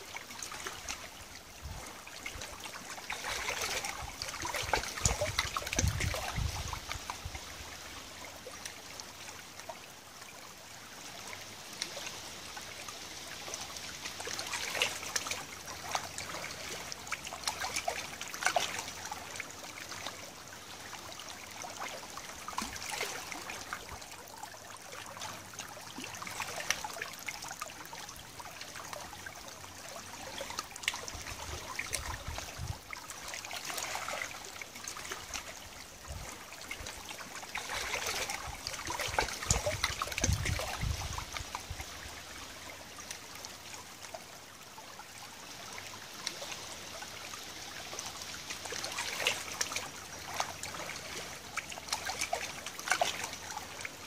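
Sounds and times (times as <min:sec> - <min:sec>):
water lapping among stones: 0:00.0 - 0:09.8, 0:11.7 - 0:44.2, 0:45.3 - 0:54.0
small splashes and drips: 0:00.0 - 0:54.0.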